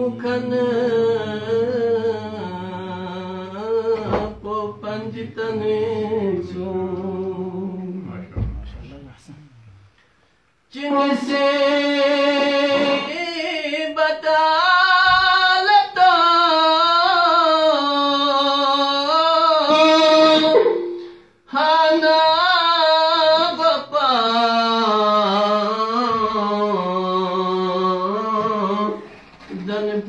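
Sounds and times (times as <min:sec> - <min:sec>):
man chanting: 0:00.0 - 0:09.8, 0:10.7 - 0:30.0.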